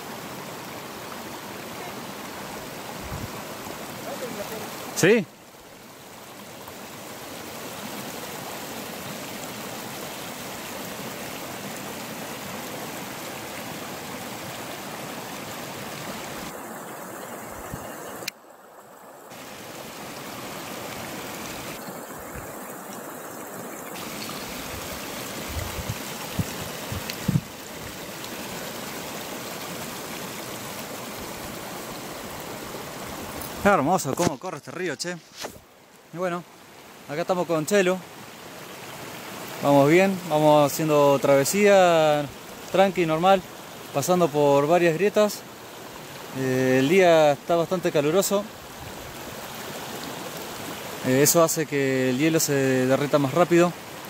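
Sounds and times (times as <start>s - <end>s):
stream rushing over ice: 0.0s - 54.0s.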